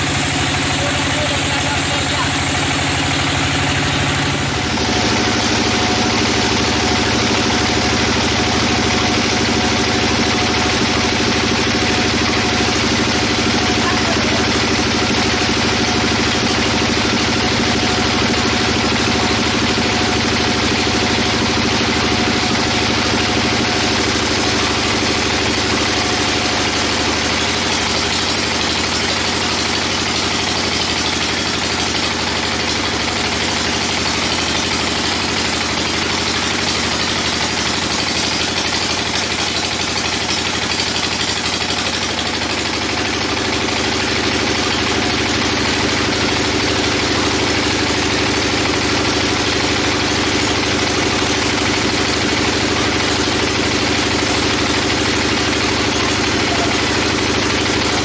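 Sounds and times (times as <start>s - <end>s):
band saw sawing log: 0.0s - 42.4s, 43.0s - 58.0s.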